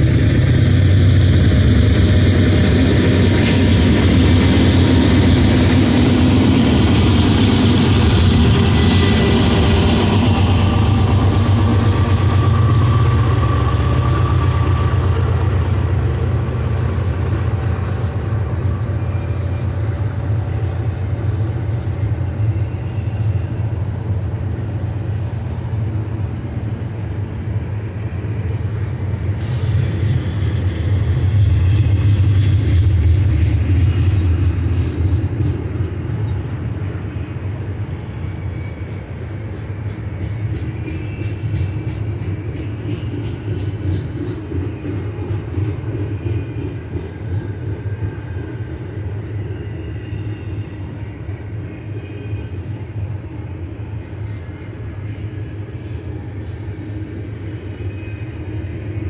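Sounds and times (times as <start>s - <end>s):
diesel locomotive engines: 0.0s - 59.0s
train wheels clattering on rail: 0.0s - 59.0s.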